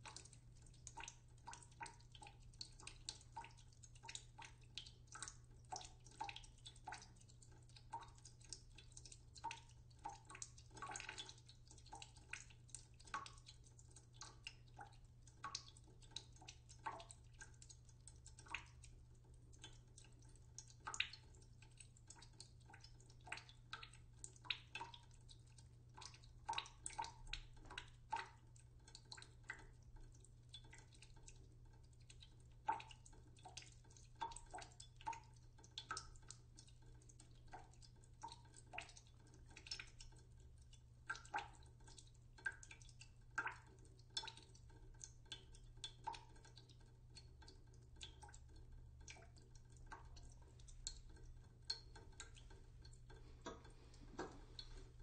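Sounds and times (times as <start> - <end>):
water dripping into pot: 0.0 - 55.0.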